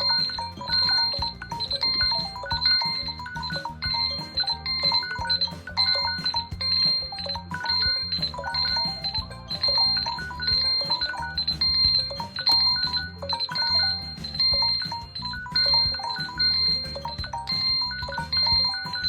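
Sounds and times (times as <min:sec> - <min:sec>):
electronic phone alert tune: 0:00.0 - 0:19.0.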